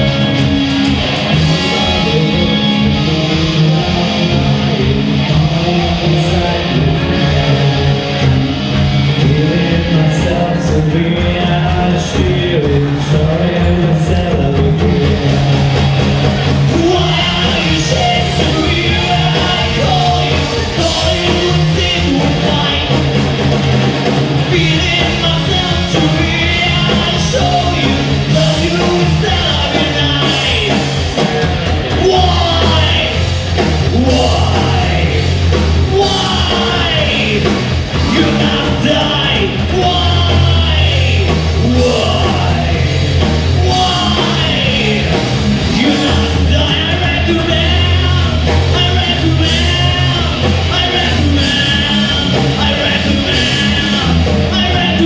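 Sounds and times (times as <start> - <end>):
bass guitar: 0.0 - 55.0
drum kit: 0.0 - 55.0
electric guitars: 0.0 - 55.0
singer's vocals: 0.0 - 55.0.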